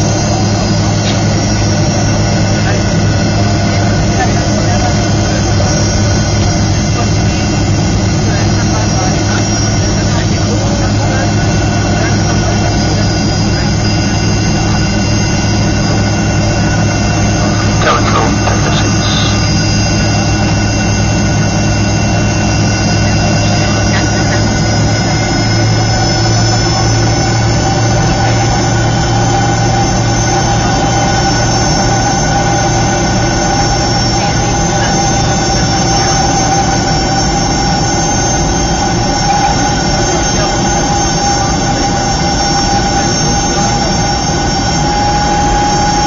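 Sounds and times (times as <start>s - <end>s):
high-pitched engine whines: 0.0s - 46.0s
jet engine drone in cabin: 0.0s - 46.0s.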